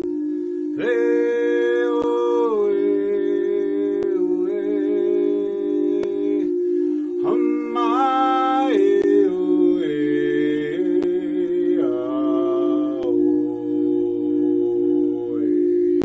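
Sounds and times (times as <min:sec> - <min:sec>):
singing bowl ringing: 0:00.0 - 0:16.0
man singing held notes: 0:00.8 - 0:16.0.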